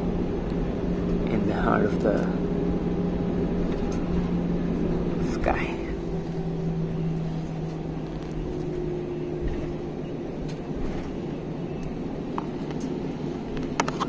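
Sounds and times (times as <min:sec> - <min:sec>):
airliner cabin rumble: 0:00.0 - 0:14.0
engine hum: 0:00.0 - 0:14.0.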